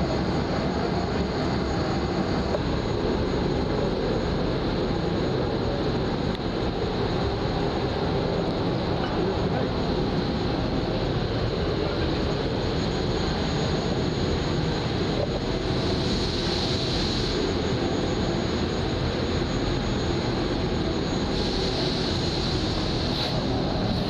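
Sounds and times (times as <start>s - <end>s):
heavy machinery drone: 0.0s - 24.0s.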